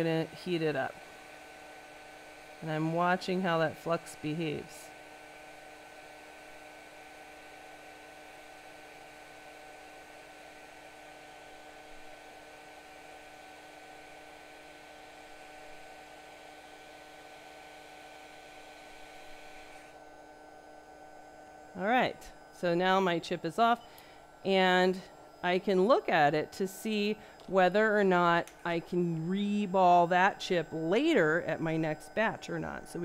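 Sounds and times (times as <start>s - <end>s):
electrical hum: 0.0s - 33.0s.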